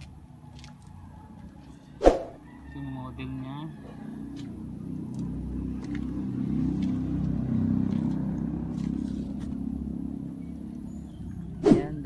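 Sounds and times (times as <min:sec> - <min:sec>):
vehicle engine driving past: 0:00.0 - 0:12.0.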